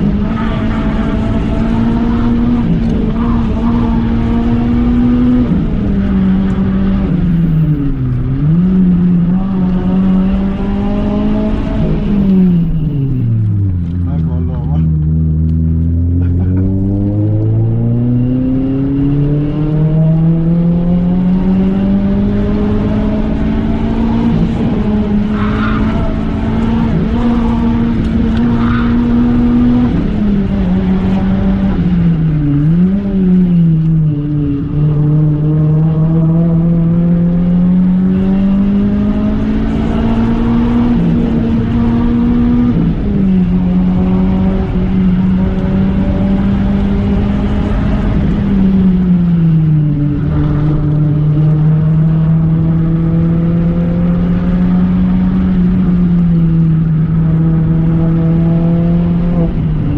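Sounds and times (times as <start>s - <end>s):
car engine under load: 0.0s - 59.9s.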